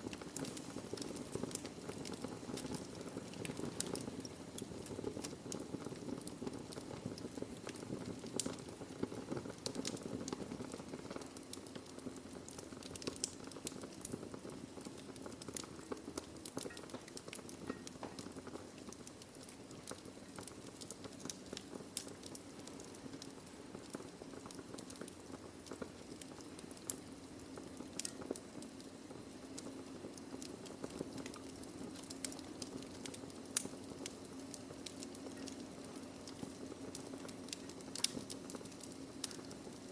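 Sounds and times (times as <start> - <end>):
flames rushing: 0.0 - 39.9
logs crackling and popping: 0.0 - 39.9.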